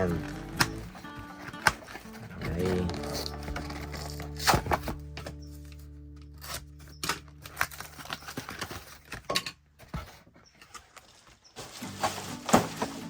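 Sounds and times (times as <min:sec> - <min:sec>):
packaging clicks and crinkles: 0:00.0 - 0:13.0.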